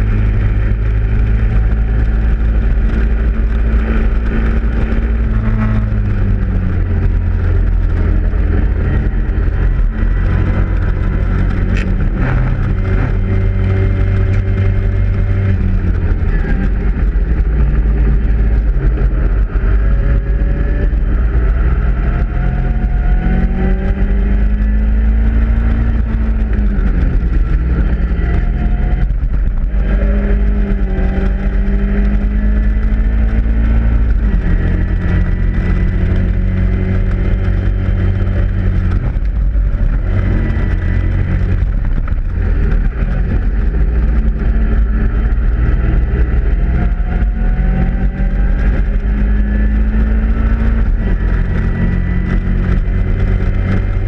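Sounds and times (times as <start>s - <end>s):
race car engine revving: 0.0s - 54.0s
wind rumble on microphone: 0.0s - 54.0s.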